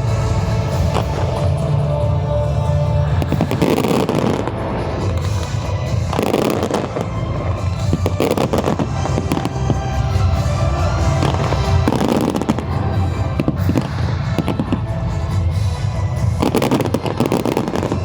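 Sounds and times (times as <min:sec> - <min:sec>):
fireworks bursting and crackling: 0:00.0 - 0:18.0
loud music with heavy bass: 0:00.0 - 0:18.0.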